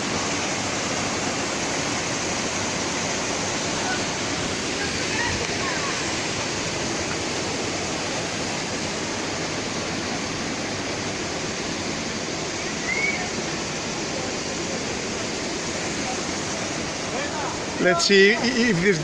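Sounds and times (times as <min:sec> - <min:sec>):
waterfall pouring into pool: 0:00.0 - 0:19.0.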